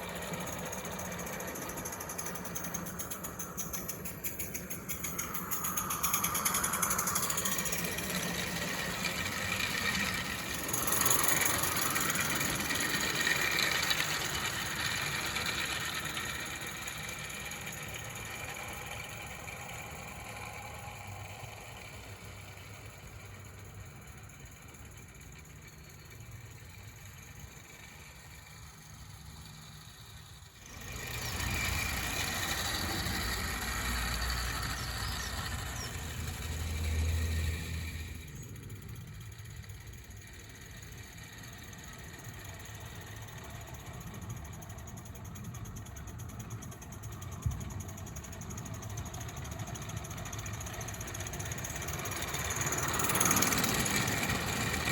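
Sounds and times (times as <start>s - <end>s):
model steam locomotive running: 0.0s - 54.9s.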